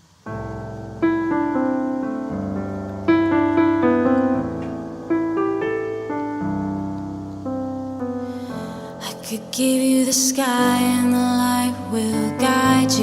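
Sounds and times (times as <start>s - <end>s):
piano playing sustained chords: 0.0s - 13.0s.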